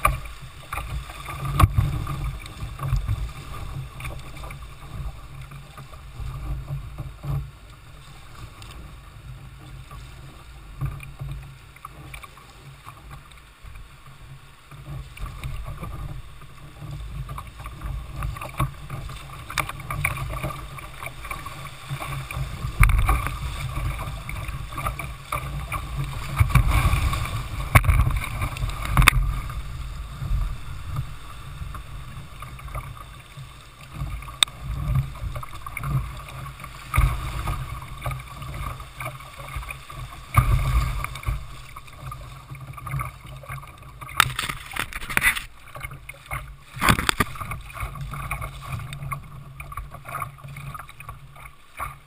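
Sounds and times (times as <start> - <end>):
rushing water: 0.0 - 52.0
water splashing against hull: 0.0 - 52.0.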